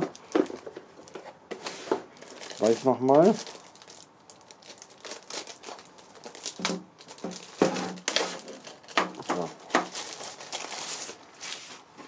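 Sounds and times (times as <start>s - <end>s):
plastic bag crinkling: 0.0s - 1.2s, 2.1s - 11.7s.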